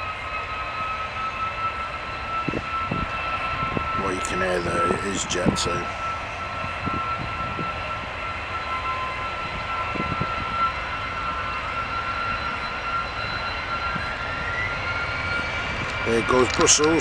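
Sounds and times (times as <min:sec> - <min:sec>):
jet engines roaring: 0:00.0 - 0:17.0
whine rising in pitch: 0:00.0 - 0:17.0.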